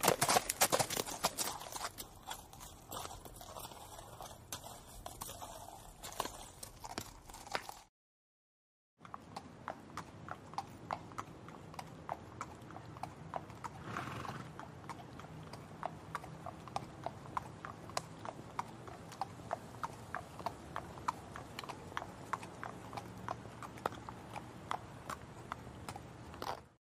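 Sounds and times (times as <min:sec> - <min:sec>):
horse hooves clip-clopping: 0:00.0 - 0:07.9, 0:09.0 - 0:26.8.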